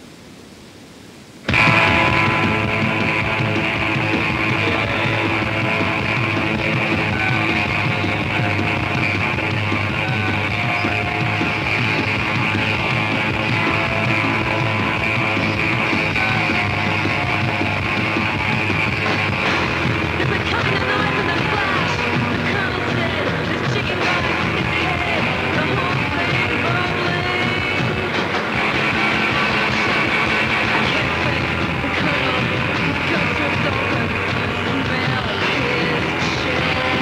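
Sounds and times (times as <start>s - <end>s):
guitar rock music on radio: 1.4s - 37.0s.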